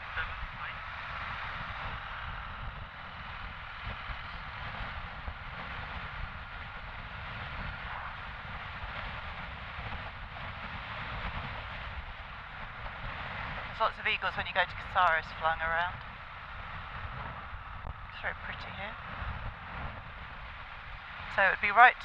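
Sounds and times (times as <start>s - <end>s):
motorcycle engine and road noise: 0.0s - 22.0s
wind rush: 0.0s - 22.0s.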